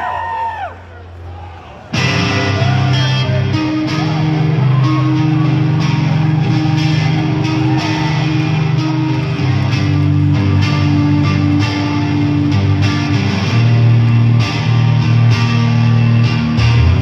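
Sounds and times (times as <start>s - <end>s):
electric guitar chords: 2.0s - 17.0s
low bass notes: 2.0s - 17.0s.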